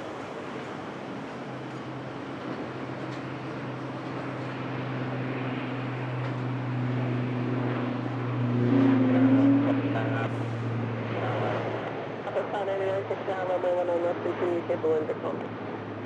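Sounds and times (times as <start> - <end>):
turboprop airplane droning: 0.0 - 16.0.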